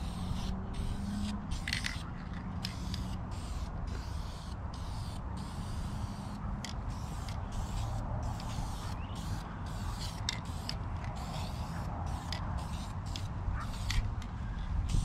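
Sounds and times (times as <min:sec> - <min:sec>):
aerosol can spraying: 0:00.0 - 0:02.0, 0:02.6 - 0:14.0
steady low rumble: 0:00.0 - 0:15.0.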